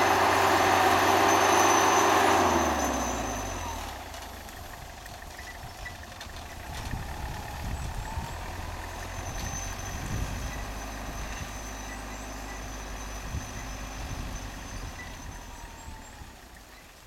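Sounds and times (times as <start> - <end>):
engine low rumble with whine: 0.0 - 17.0.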